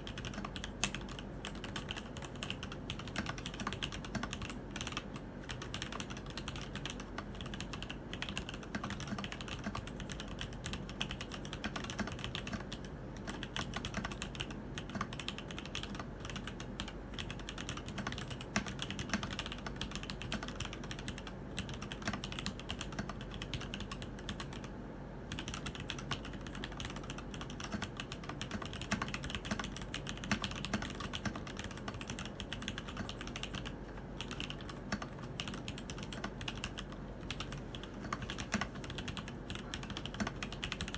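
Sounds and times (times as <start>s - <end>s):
mechanical keyboard typing: 0.0s - 24.7s, 25.3s - 40.9s.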